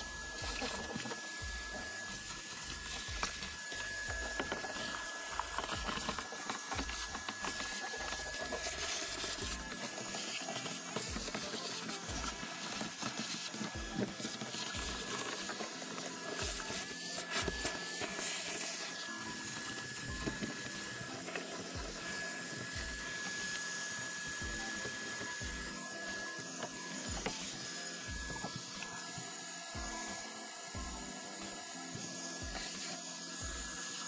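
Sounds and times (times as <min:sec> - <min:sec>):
shop vacuum whining: 0:00.0 - 0:34.0.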